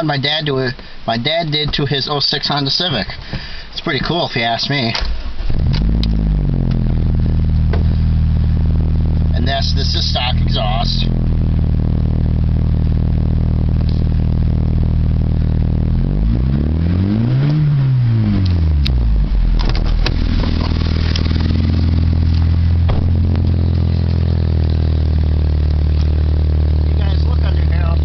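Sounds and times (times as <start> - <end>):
car engine idling and revving: 5.0 - 28.0.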